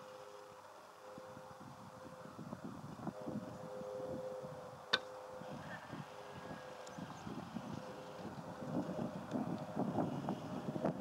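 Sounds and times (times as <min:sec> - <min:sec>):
faint steady hum: 0:00.0 - 0:11.0
wind buffeting microphone: 0:01.1 - 0:11.0.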